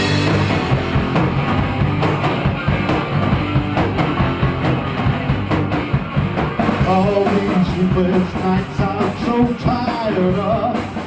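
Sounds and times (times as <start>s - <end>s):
drum kit beat: 0.0s - 11.0s
electric guitars: 0.0s - 11.0s.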